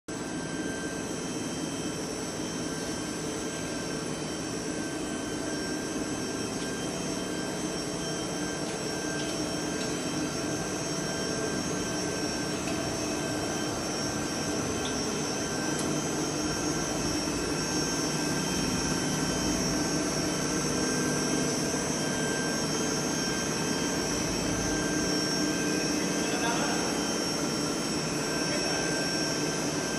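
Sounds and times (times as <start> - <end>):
blower and motors whirring drone: 0.1 - 29.9
steady whining tones: 0.2 - 29.9.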